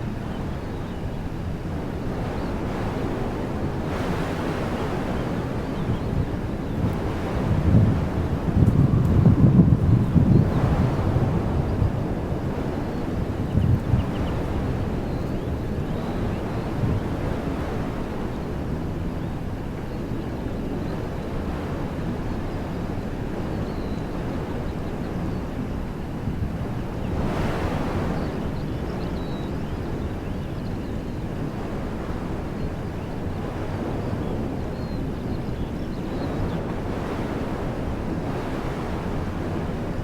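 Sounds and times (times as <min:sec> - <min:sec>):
wind blowing through trees: 0:00.0 - 0:40.0.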